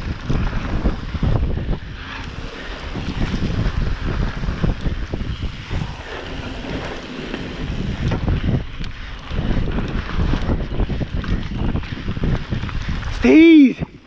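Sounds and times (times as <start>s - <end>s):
tyres rumbling on dirt: 0.0s - 13.2s
wind buffeting microphone: 0.0s - 14.0s.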